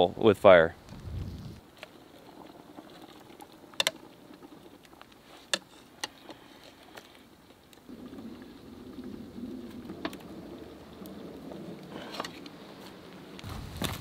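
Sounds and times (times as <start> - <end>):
pot boiling: 1.6 - 13.5.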